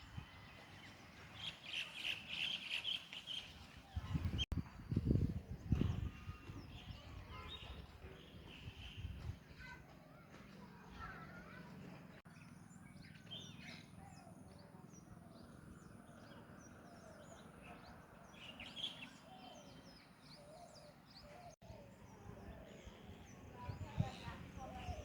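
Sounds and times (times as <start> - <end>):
small birds chirping: 0.1 - 25.0.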